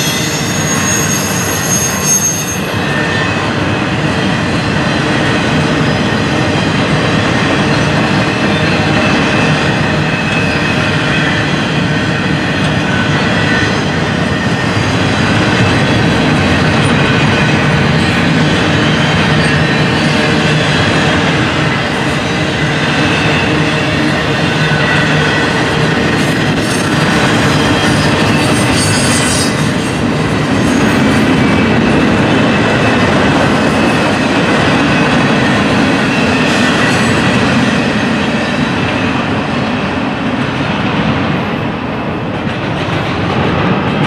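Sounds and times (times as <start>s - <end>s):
freight train wheels rumbling on rail: 0.0s - 44.0s.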